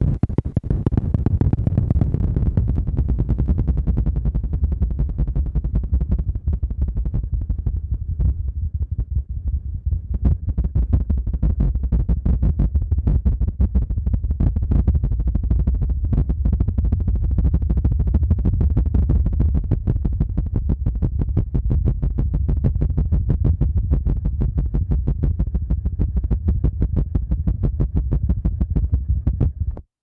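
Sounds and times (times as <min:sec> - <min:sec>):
thumping pulses on microphone: 0:00.0 - 0:29.9.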